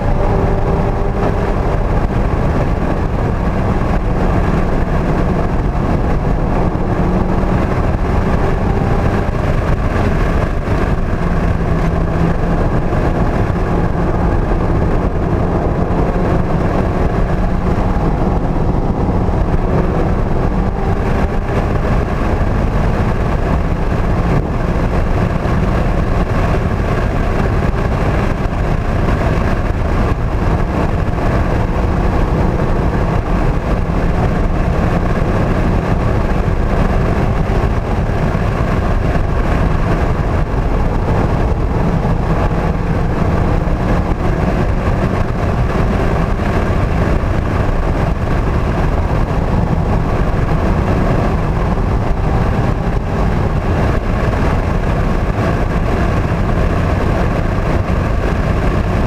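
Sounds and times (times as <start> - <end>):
car engine running at speed: 0.0 - 59.0
road and wind noise: 0.0 - 59.0.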